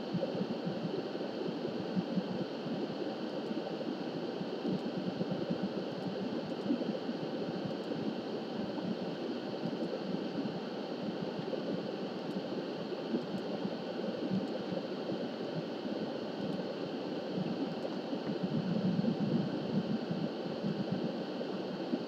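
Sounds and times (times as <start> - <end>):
background hiss and rumble: 0.0 - 22.0.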